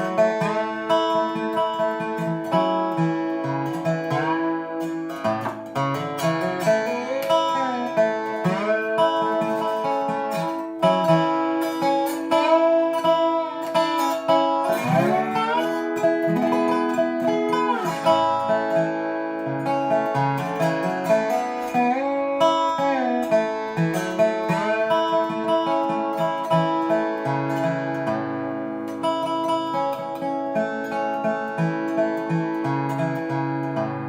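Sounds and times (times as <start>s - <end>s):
slide resonator guitar: 0.0s - 34.0s.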